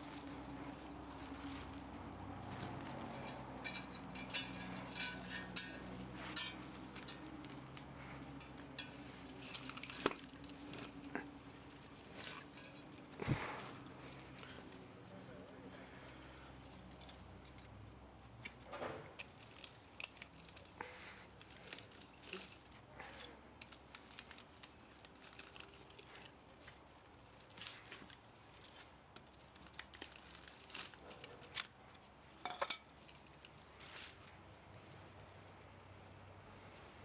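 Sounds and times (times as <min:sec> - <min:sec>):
hand tools clicking and scraping metal: 0:00.0 - 0:34.4.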